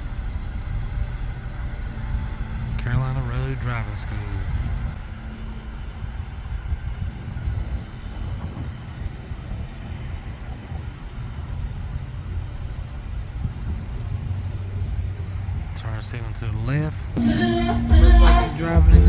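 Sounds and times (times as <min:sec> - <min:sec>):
low vehicle rumble: 0:00.0 - 0:19.0.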